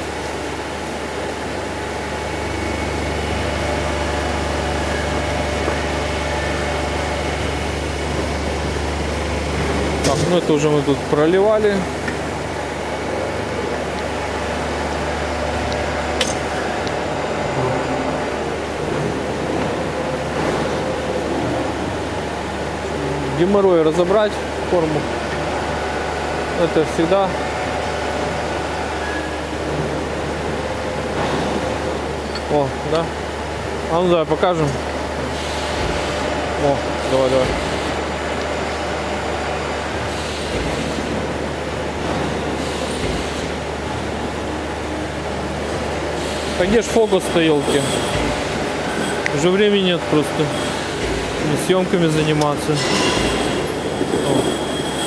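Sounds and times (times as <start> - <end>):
workshop machinery rushing noise: 0.0 - 55.0.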